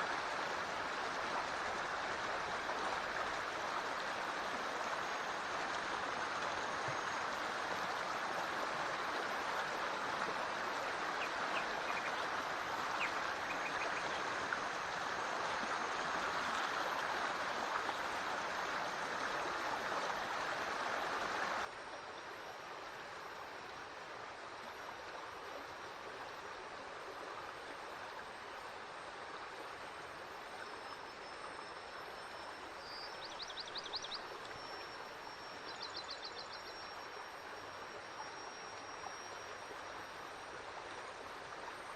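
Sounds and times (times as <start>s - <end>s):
stream flowing: 0.0s - 41.9s.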